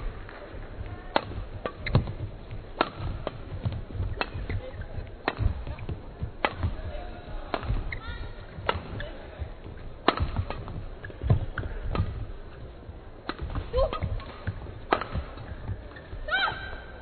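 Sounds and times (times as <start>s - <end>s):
rackets striking shuttlecock: 0.0s - 16.3s.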